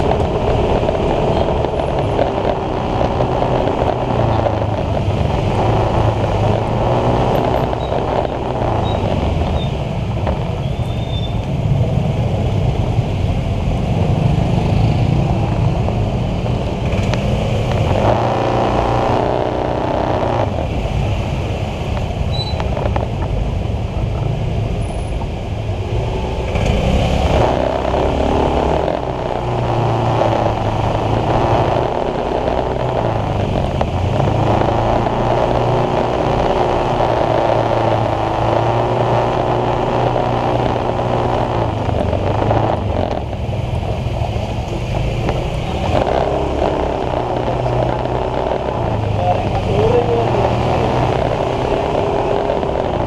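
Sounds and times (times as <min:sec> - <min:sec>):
scooter engine running: 0:00.0 - 0:10.5, 0:13.9 - 0:20.8, 0:26.7 - 0:53.0.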